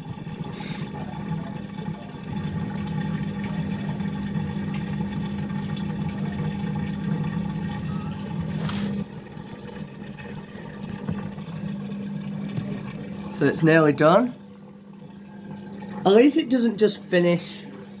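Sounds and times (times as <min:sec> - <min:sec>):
drain pump humming: 0:00.0 - 0:18.0
water gurgling: 0:00.0 - 0:18.0.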